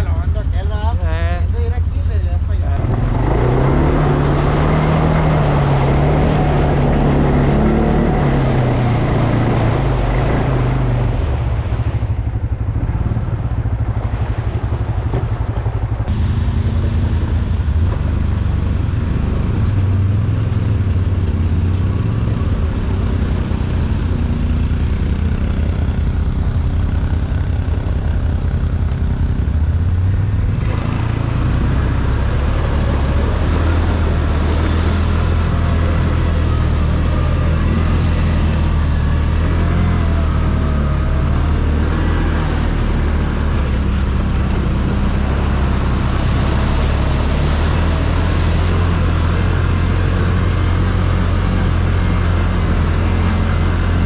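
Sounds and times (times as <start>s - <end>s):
atv engine running: 0.0s - 54.0s
terrain noise: 0.0s - 54.0s
wind: 0.0s - 54.0s.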